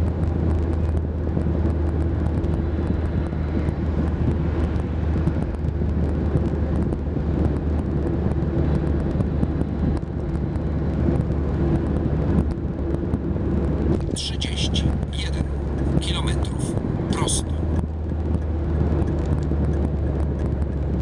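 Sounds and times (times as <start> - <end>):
low engine drone: 0.0 - 21.0
tyre and road noise: 0.0 - 21.0.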